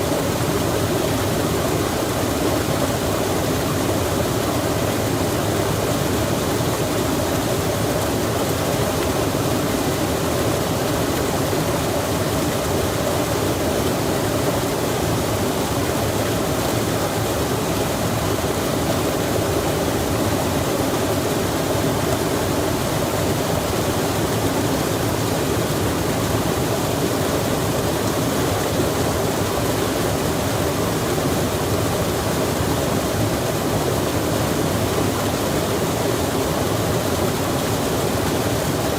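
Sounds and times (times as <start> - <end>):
rain and stream rushing water: 0.0 - 38.9.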